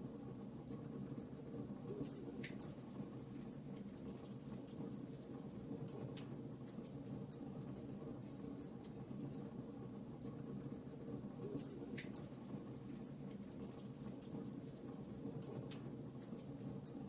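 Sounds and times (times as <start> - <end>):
wood fire crackling and popping: 0.7 - 9.6, 10.2 - 17.0.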